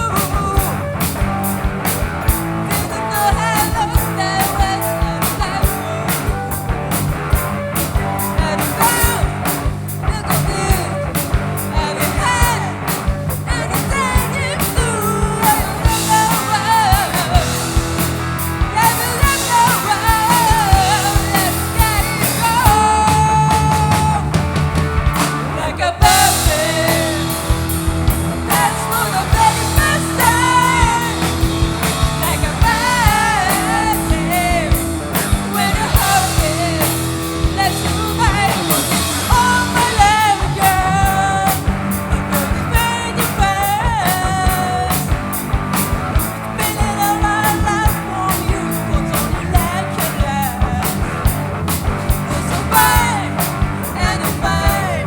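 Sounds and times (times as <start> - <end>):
live rock band playing: 0.0 - 55.0
person singing lead vocals: 0.0 - 55.0.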